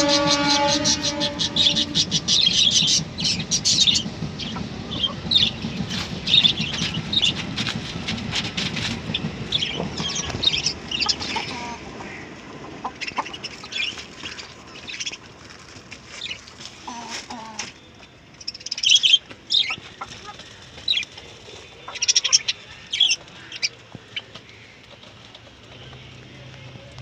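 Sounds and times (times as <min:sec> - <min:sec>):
chickens calling: 0:00.0 - 0:27.0.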